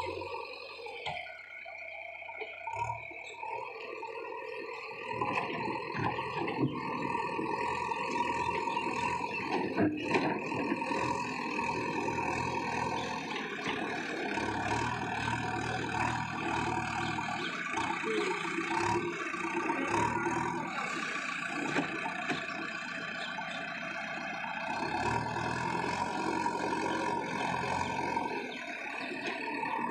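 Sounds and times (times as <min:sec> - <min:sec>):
diesel engine under load: 0:00.0 - 0:29.9.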